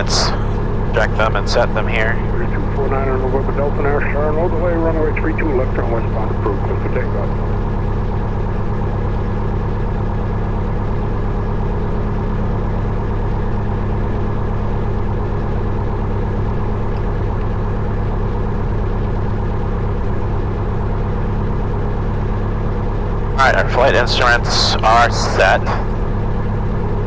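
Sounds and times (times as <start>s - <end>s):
airplane engine idling: 0.0s - 27.0s.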